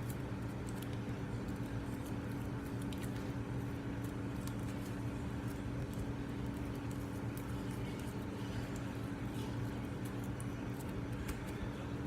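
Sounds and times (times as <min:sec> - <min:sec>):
slime squelching: 0:00.0 - 0:12.0
steady low hum: 0:00.0 - 0:12.0.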